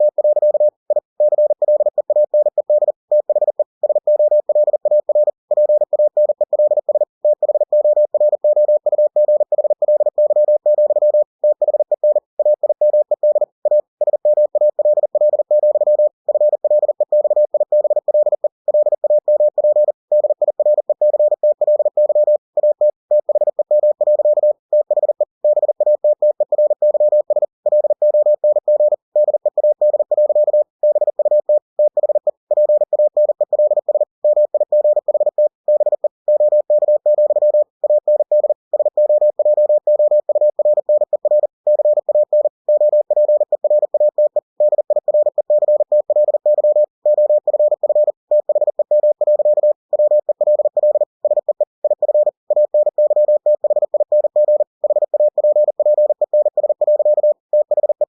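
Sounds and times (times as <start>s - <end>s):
morse code beeps: 0.0s - 58.0s.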